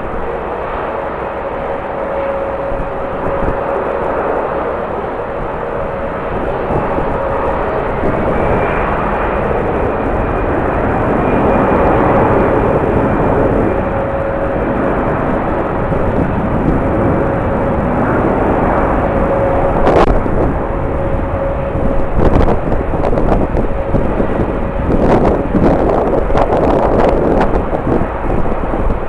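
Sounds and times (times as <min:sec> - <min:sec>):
jet engines whining: 0:00.0 - 0:29.0
strong wind rushing: 0:00.0 - 0:29.0.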